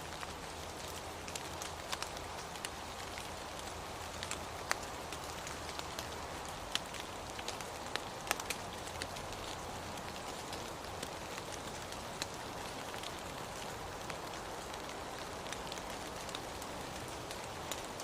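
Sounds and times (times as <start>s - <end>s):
raindrops ticking: 0.0s - 18.0s
steady rain hiss: 0.0s - 18.0s.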